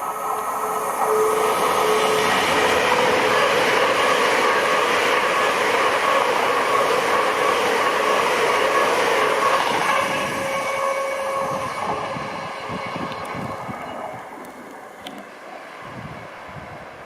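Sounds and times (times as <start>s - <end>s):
train rail noise: 0.0s - 17.0s.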